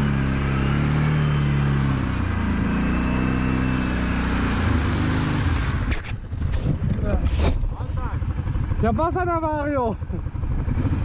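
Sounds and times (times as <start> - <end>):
atv engine running through mud: 0.0 - 11.0.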